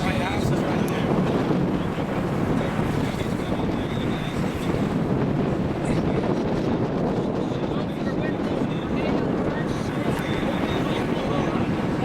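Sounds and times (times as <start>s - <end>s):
storm wind on microphone: 0.0s - 12.0s.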